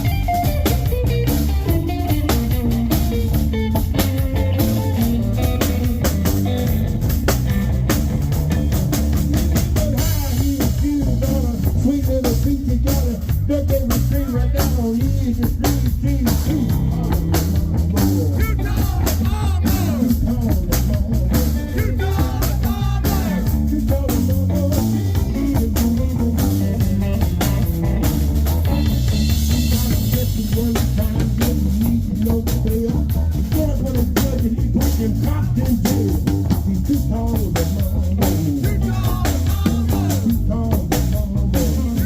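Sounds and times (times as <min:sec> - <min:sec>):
blues rock band playing: 0:00.0 - 0:42.0
guitar with bending notes: 0:00.0 - 0:42.0.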